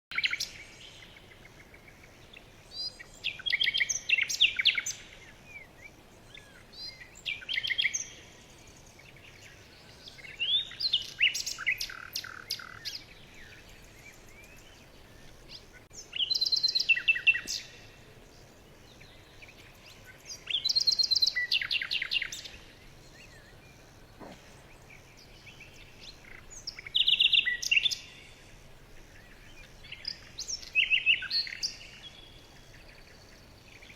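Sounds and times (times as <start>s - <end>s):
songbird chirping trills: 0.1s - 33.9s.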